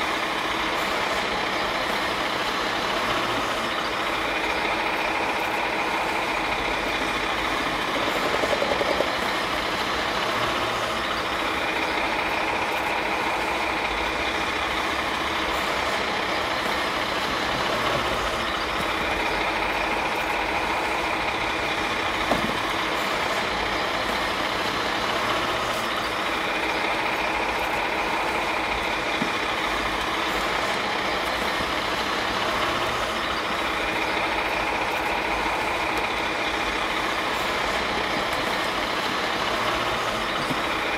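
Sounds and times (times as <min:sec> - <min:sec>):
garbage truck engine idling: 0:00.0 - 0:40.9.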